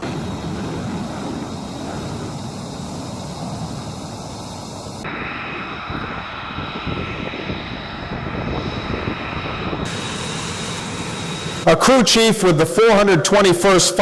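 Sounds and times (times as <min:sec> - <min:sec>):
high engine whine: 0:00.0 - 0:14.0
jet engine rushing: 0:00.0 - 0:14.0.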